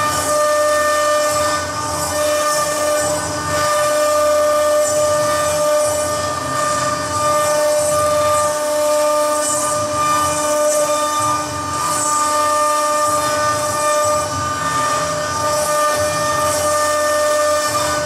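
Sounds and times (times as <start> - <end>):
bit cutting stone hiss: 0.0 - 18.0
router spindle high whine: 0.0 - 18.0.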